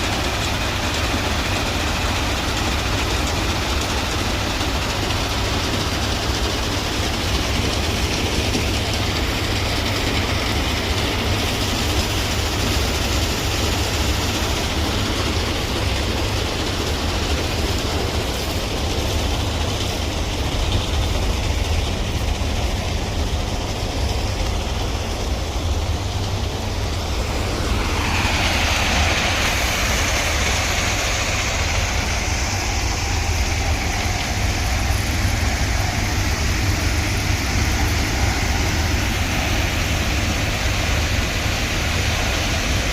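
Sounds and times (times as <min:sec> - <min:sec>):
heavy machinery engine rumble: 0:00.0 - 0:42.9.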